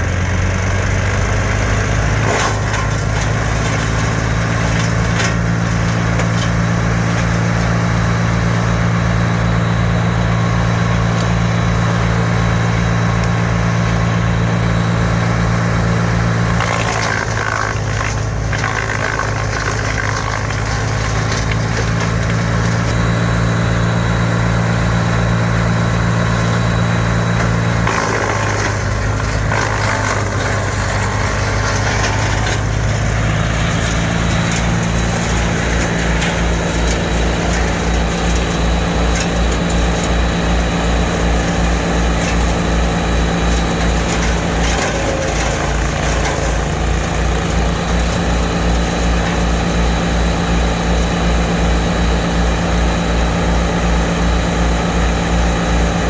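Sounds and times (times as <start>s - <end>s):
wood chipper engine running: 0.0s - 56.0s.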